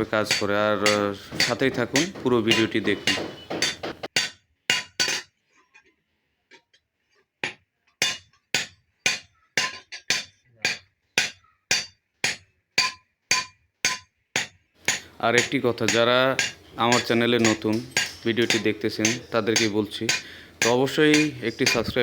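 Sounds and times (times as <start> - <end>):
hammer striking anvil: 0.0 - 5.2, 8.0 - 22.0.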